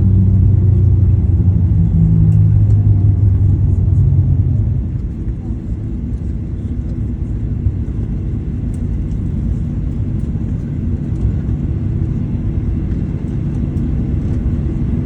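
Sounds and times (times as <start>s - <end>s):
low rumble in airplane cabin: 0.0s - 15.0s.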